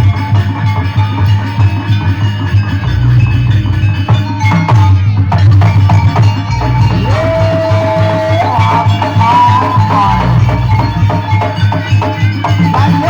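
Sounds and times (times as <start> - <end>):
drums and struck percussion: 0.0 - 13.0
gamelan music: 0.0 - 13.0
sustained sliding melody: 0.0 - 13.0.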